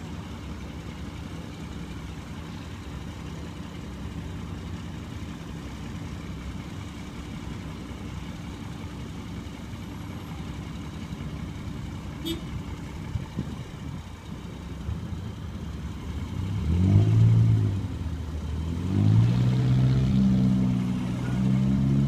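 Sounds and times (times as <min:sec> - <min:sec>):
diesel truck engine idling: 0:00.0 - 0:18.8.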